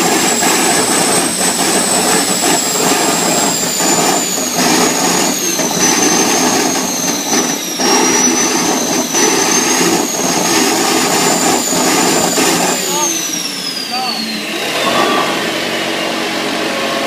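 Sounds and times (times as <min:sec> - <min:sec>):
turbojet engine roar and whine: 0:00.0 - 0:17.0.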